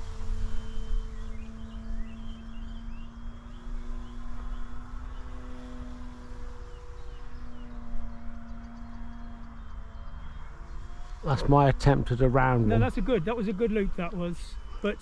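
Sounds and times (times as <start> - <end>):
model plane motor drone: 0.0 - 15.0
bird chirps: 0.1 - 15.0.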